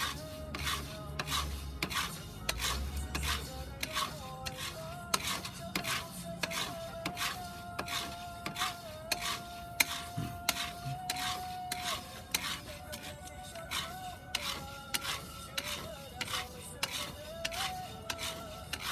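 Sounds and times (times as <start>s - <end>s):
wooden spoon stirring coffee beans: 0.0s - 18.9s.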